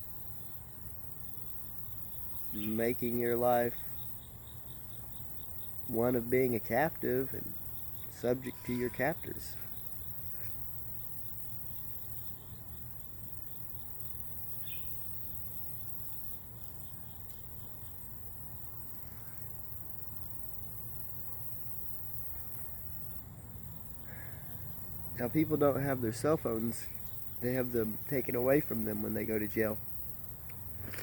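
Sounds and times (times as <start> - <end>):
low hum and hiss: 0.0 - 31.0.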